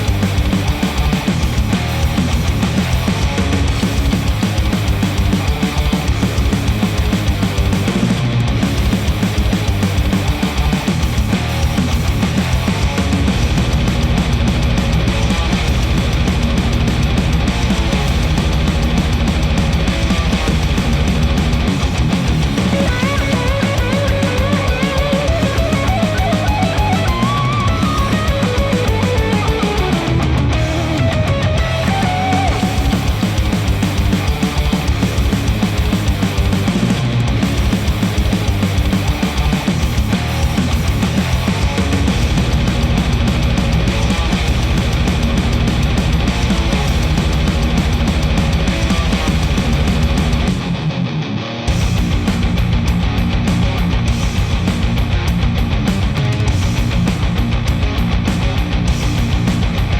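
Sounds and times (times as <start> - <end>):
fast steady drum beat: 0.0 - 50.8, 51.7 - 59.9
heavy rock music: 0.0 - 59.9.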